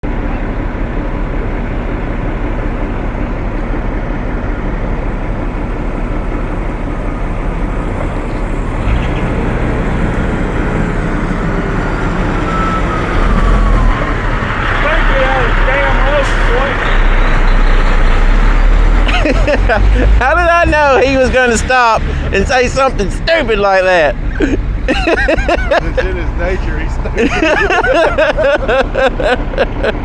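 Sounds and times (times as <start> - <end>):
heavy vehicle engine rumbling: 0.0 - 30.0.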